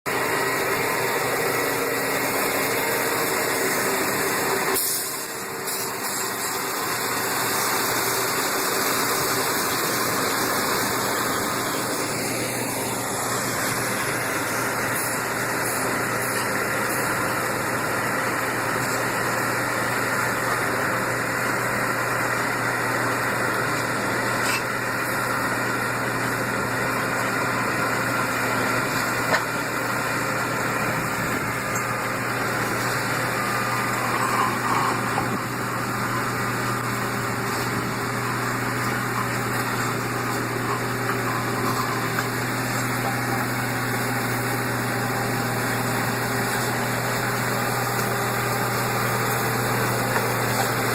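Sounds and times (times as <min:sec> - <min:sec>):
construction machinery engine drone: 0:00.1 - 0:50.9.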